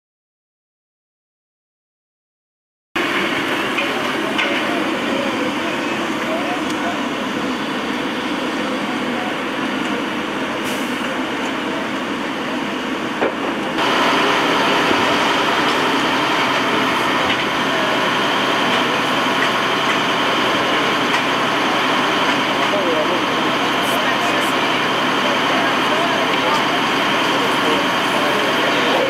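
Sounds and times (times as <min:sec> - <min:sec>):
background voices: 0:03.0 - 0:29.0
vehicle engines idling: 0:03.0 - 0:29.0.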